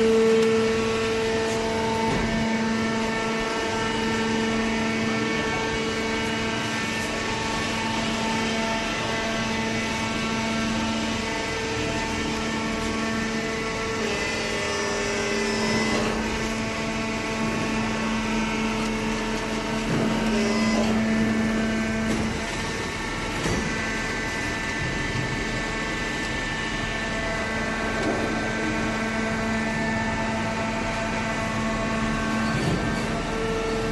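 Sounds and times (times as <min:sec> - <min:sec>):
baler motor and hydraulic pump whine: 0:00.0 - 0:33.9.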